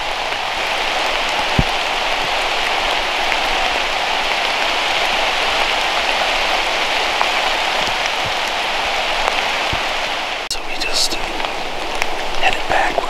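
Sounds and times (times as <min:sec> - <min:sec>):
steady rain-like hiss: 0:00.0 - 0:13.0.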